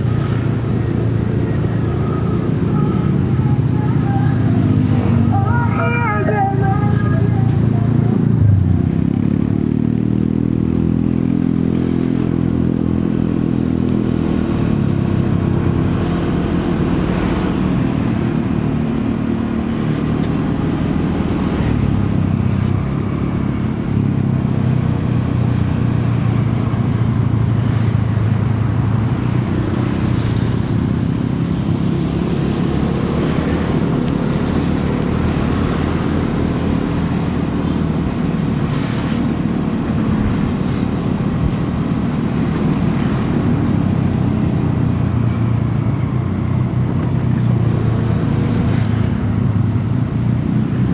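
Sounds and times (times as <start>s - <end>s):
road and traffic noise: 0.0s - 50.9s
motorcycle engine: 6.6s - 50.9s.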